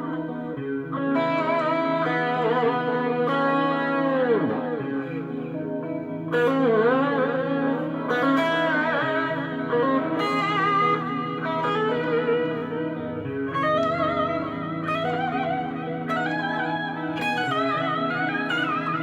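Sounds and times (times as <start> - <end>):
electric guitar lead melody: 0.0 - 19.0.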